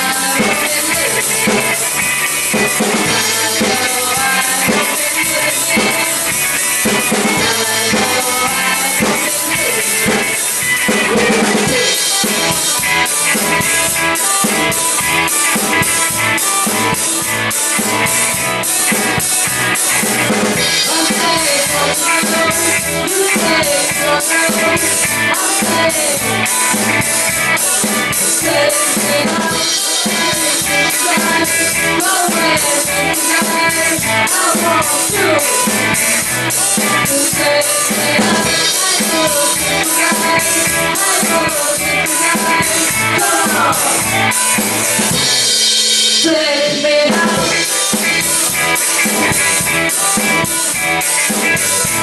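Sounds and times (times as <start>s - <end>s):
drum kit beat: 0.0s - 52.0s
rock band playing live: 0.0s - 52.0s.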